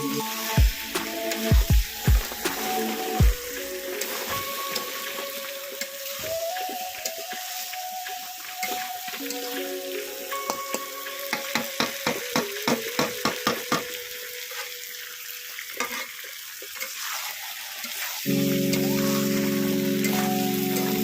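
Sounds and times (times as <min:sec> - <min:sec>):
curry sizzling in pan: 0:00.3 - 0:21.0.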